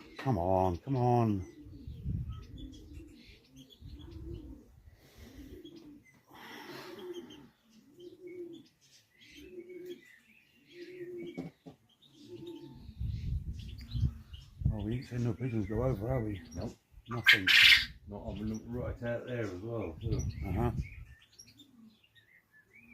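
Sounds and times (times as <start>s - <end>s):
pigeons cooing: 0.0s - 22.9s
small birds chirping: 0.0s - 22.9s.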